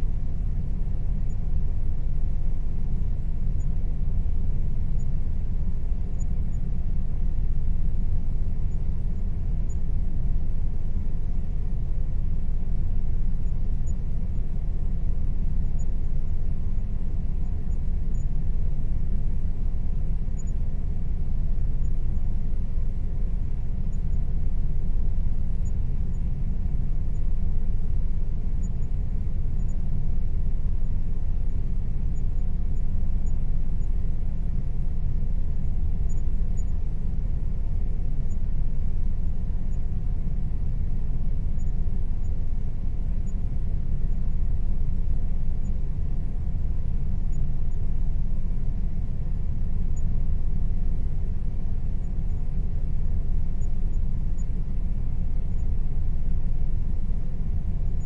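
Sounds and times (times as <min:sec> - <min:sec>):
air conditioner rumbling: 0:00.0 - 0:58.0
faint steady hum: 0:00.0 - 0:58.0.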